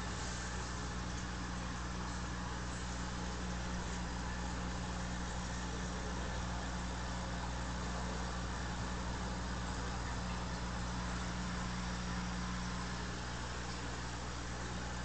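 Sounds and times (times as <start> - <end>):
air pump humming: 0.0 - 15.0.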